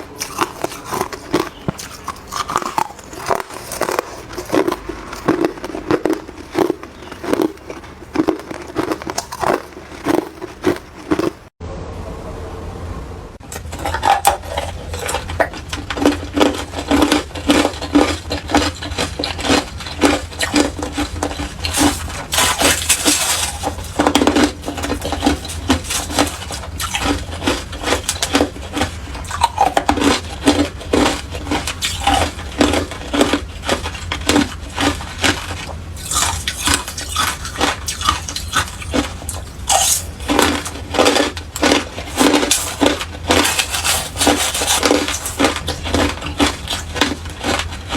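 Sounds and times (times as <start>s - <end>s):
ice being chewed: 0.0s - 11.5s, 13.5s - 47.9s.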